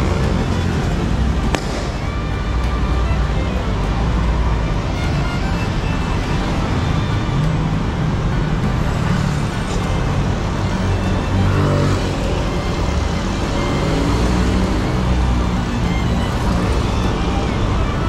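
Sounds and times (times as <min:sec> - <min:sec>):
road traffic rumble: 0:00.0 - 0:18.0
vehicle engine: 0:00.0 - 0:18.0.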